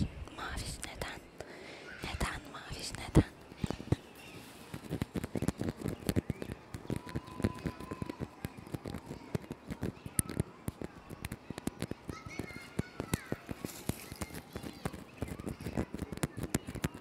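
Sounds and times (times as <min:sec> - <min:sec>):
fingertips tapping on tree bark: 0:02.2 - 0:17.0.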